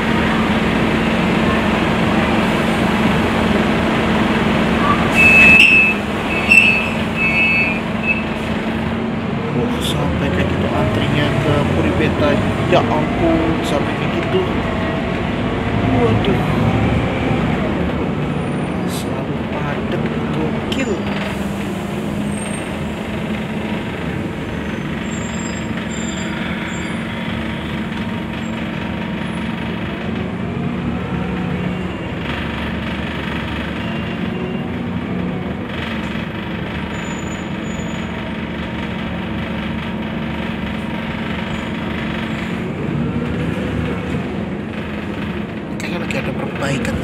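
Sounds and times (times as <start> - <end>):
bus engine drone: 0.0 - 47.0
road rumble: 0.0 - 47.0.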